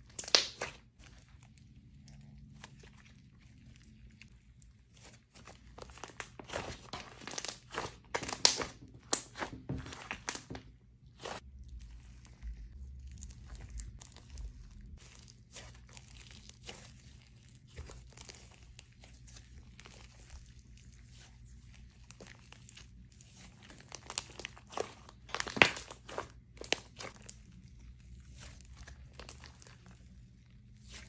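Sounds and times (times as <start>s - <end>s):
slime crackling and squelching: 0.0s - 31.0s.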